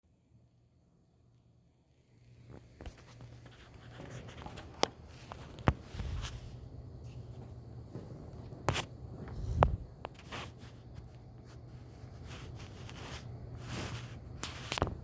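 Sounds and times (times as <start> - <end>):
steady low hum: 0.1 - 15.0
clicks and rustling: 2.5 - 15.0.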